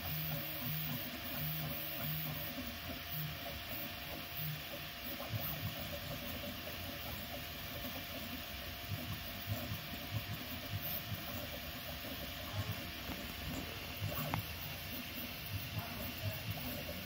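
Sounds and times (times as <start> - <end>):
cooling fans whirring: 0.0 - 17.0
stepper motors buzzing: 0.0 - 17.0.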